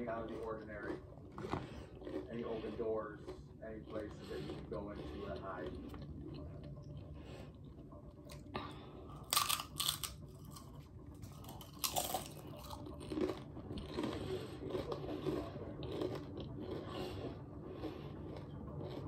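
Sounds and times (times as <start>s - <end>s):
chip crunching and chewing: 0.0s - 19.0s.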